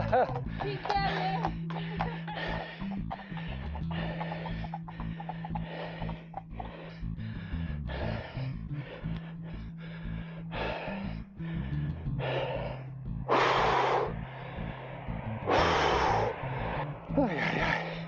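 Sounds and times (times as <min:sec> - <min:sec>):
background music: 0:00.0 - 0:18.0
person panting hard: 0:00.0 - 0:18.0
loud long gasps: 0:01.8 - 0:18.0.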